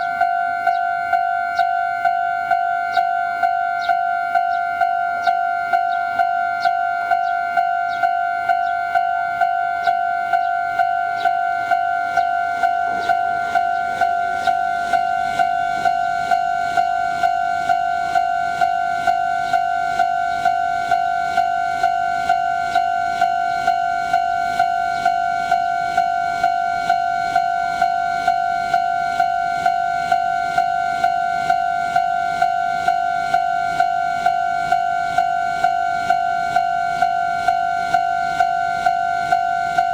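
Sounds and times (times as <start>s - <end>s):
electronic crossing bell ringing: 0.0s - 39.9s.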